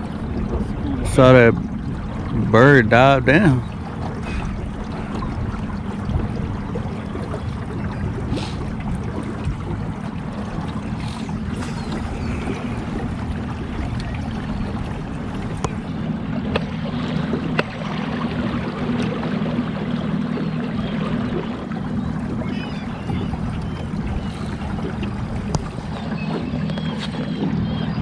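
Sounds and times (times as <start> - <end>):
boat motor humming: 0.0 - 28.0
water wash: 0.0 - 28.0.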